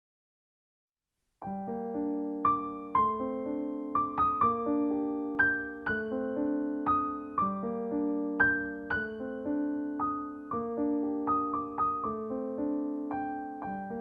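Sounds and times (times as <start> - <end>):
gentle piano music: 1.4 - 14.0.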